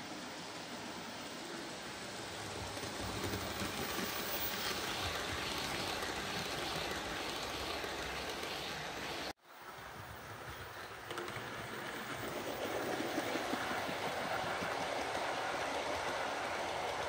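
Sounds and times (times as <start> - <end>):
model train running on rails: 0.0 - 17.0.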